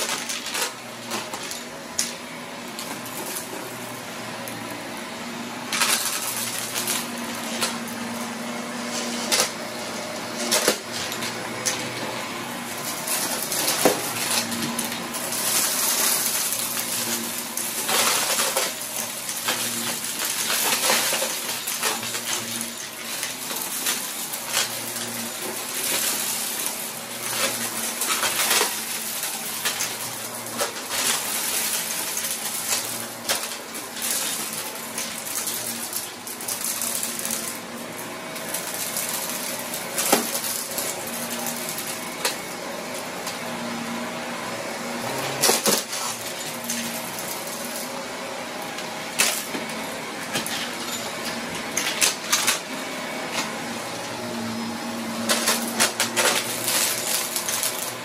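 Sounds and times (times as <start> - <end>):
vacuum cleaner motor humming: 0.0 - 58.0.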